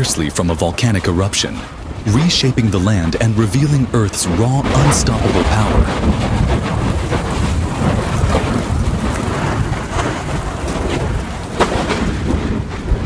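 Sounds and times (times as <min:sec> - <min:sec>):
deep volcanic rumble: 0:00.0 - 0:13.0
lava crackling: 0:00.0 - 0:13.0
sharp cracks: 0:01.8 - 0:13.0.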